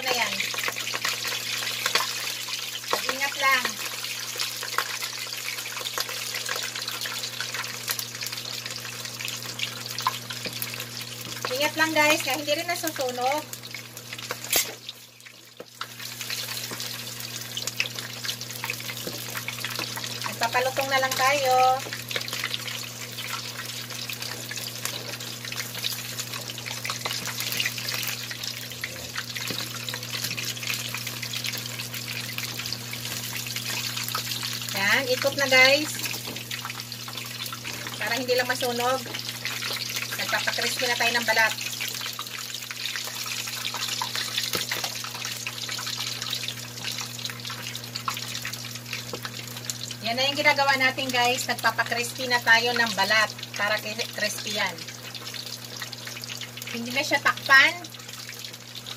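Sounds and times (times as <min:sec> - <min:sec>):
meat sizzling in hot oil: 0:00.0 - 0:58.9.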